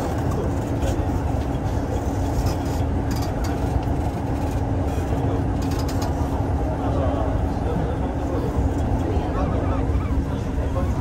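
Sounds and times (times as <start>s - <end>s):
constant hum: 0.0s - 11.0s
train wheels rumbling on rail: 0.0s - 11.0s.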